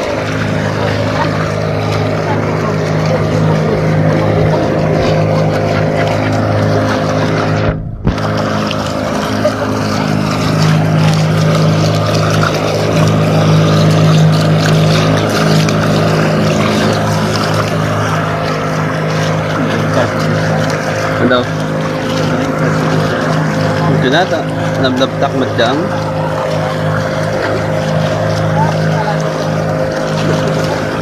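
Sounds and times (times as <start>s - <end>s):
boat engine running: 0.0s - 31.0s
water rushing along hull: 0.0s - 31.0s.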